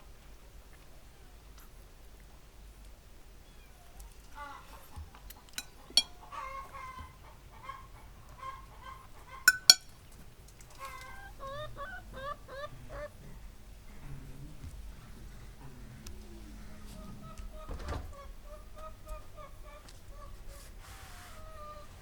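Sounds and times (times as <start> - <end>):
chickens clucking: 0.2 - 22.0.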